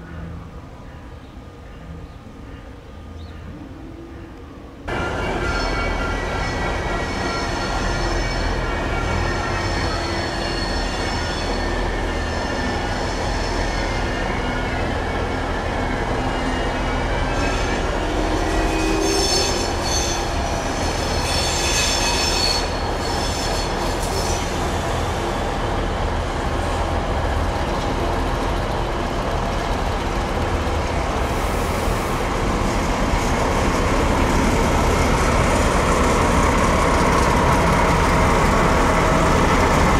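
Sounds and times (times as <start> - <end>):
train rumble: 0.0 - 39.9
train wheels squealing on rails: 4.9 - 39.9.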